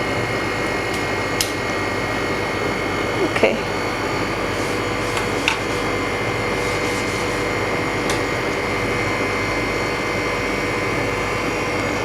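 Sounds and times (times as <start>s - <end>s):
high whine: 0.0s - 12.0s
refrigeration unit whirring hum: 0.0s - 12.0s.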